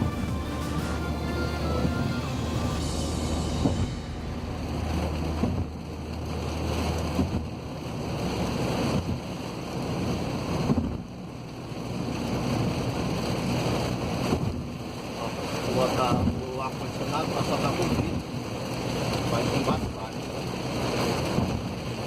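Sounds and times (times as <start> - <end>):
heavy rain on car: 0.0 - 22.0
wet road noise: 0.0 - 22.0.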